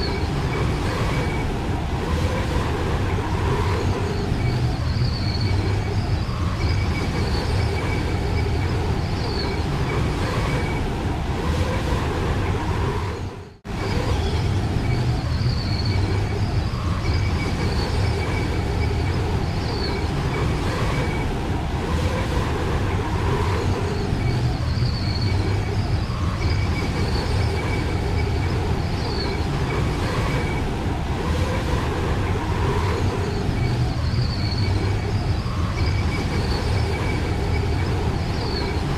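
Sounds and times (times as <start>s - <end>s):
blizzard wind roaring: 0.0s - 38.9s.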